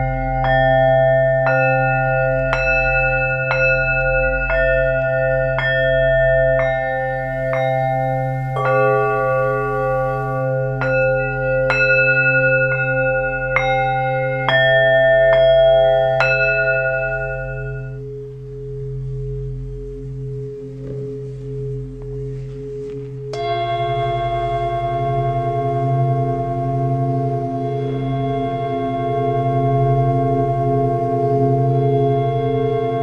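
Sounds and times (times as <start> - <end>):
singing bowls struck with mallet: 0.0 - 33.0
steady low drone: 0.0 - 33.0.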